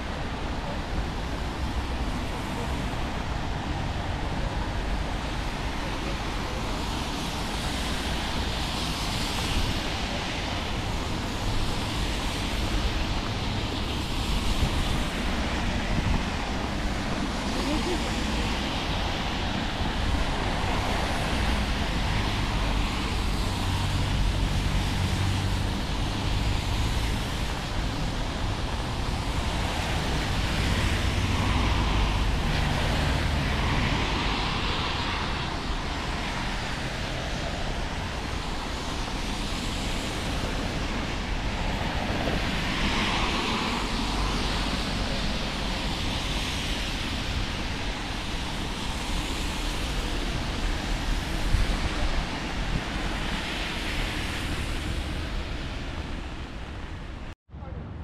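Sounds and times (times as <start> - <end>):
street traffic going by: 0.0 - 58.0.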